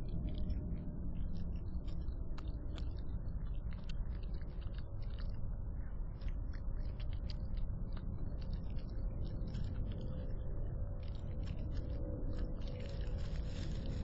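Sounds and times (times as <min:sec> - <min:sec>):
low rumble and hum: 0:00.0 - 0:14.0
raccoon chewing: 0:00.0 - 0:14.0.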